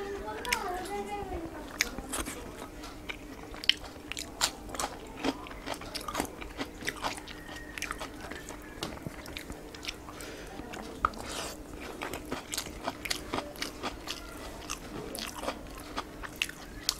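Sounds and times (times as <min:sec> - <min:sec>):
chewing: 0:00.4 - 0:01.0, 0:01.6 - 0:16.9.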